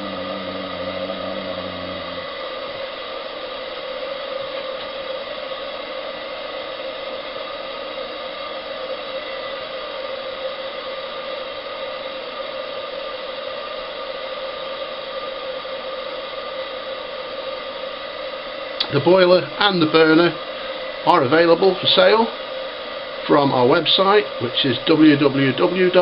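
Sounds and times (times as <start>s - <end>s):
gas burner flame hissing: 0.0s - 26.0s.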